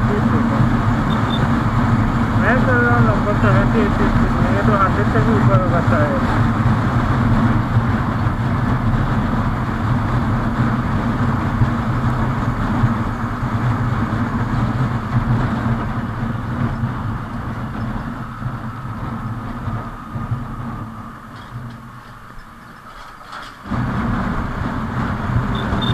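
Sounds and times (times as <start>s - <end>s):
motorcycle engine drone: 0.0s - 25.9s
wind rushing on microphone: 0.0s - 25.9s.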